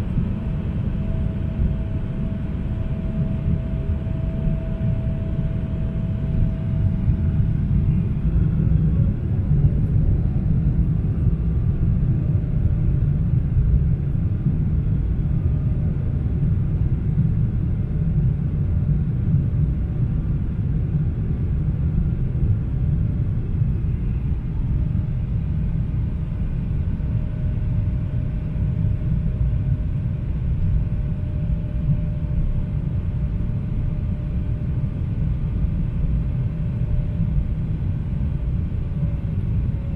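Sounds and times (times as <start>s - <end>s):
airliner cabin engine drone: 0.0s - 39.9s
faint steady hum: 0.0s - 39.9s.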